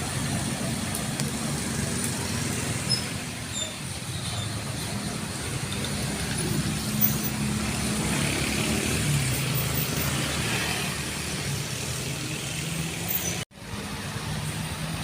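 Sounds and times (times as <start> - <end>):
tyre and traffic noise: 0.0 - 15.0.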